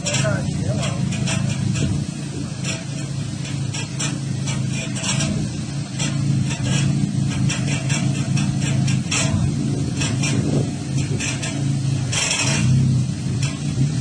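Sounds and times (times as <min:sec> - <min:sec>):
van engine humming: 0:00.0 - 0:14.0.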